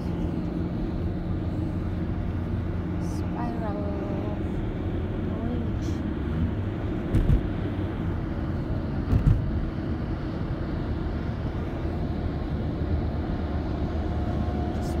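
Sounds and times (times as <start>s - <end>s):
road and engine noise inside car: 0.0s - 15.0s.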